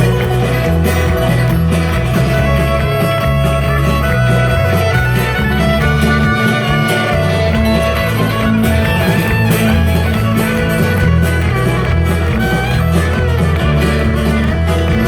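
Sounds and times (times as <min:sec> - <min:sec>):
bass line: 0:00.0 - 0:15.0
country band playing: 0:00.0 - 0:15.0
fiddle: 0:00.0 - 0:15.0
guitar: 0:00.0 - 0:15.0.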